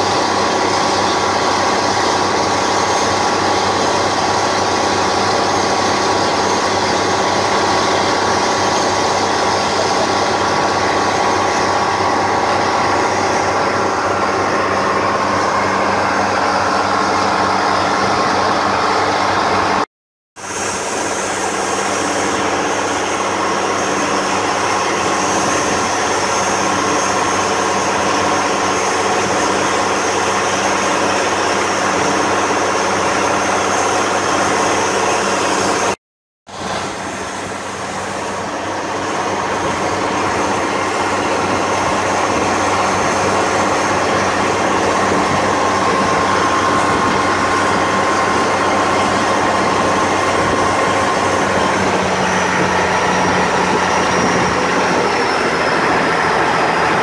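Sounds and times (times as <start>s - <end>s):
boat engine running: 0.0s - 19.8s, 20.4s - 57.0s
water rushing from wake: 0.0s - 19.8s, 20.4s - 57.0s.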